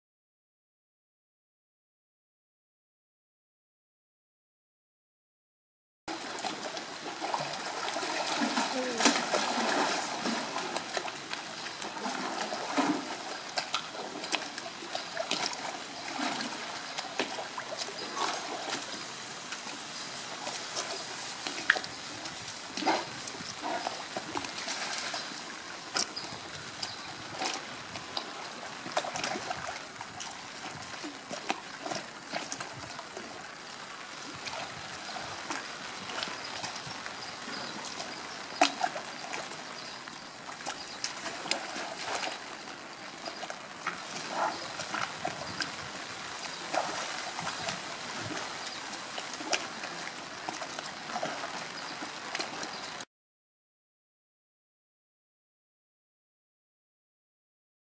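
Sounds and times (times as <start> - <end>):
pool water sloshing and splashing: 6.1 - 53.1.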